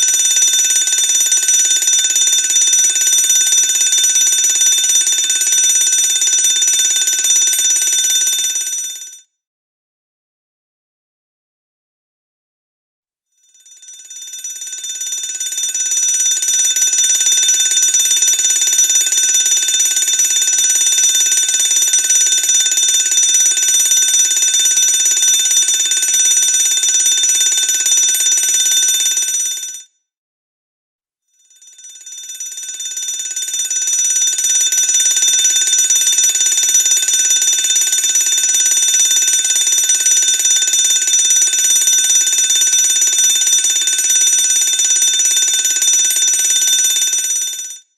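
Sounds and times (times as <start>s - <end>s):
fire alarm bell ringing: 0.0s - 9.2s, 13.5s - 29.8s, 31.4s - 47.9s.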